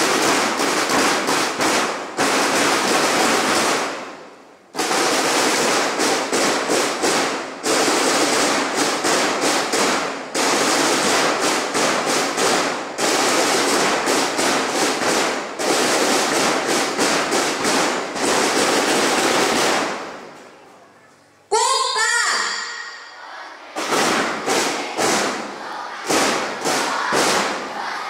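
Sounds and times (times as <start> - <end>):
firecrackers crackling: 0.0 - 20.6, 23.8 - 28.0.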